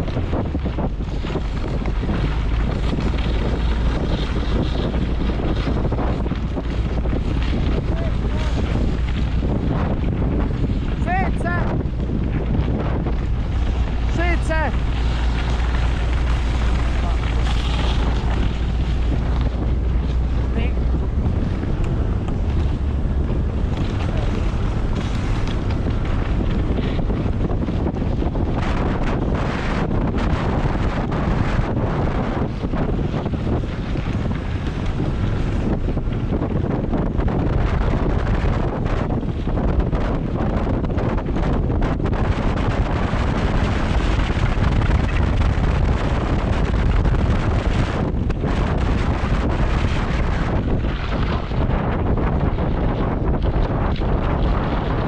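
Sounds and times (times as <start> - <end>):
low rumble: 0.0 - 55.0
wind buffeting microphone: 0.0 - 55.0.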